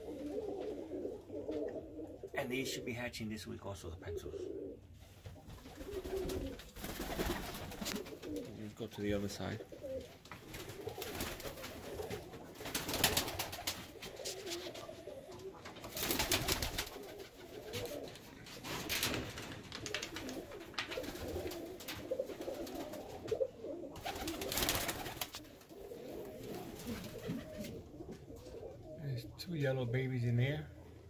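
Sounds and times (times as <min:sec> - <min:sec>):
pigeons cooing: 0:00.0 - 0:02.9, 0:04.0 - 0:08.6, 0:09.4 - 0:19.1, 0:19.8 - 0:31.0.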